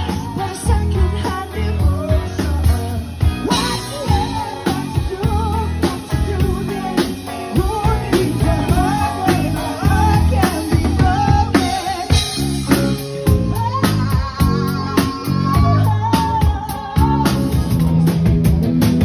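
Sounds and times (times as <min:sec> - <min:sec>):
woman singing lead: 0:00.0 - 0:18.4
bass guitar: 0:00.0 - 0:19.0
drum kit: 0:00.0 - 0:19.0
electric guitars: 0:00.0 - 0:19.0.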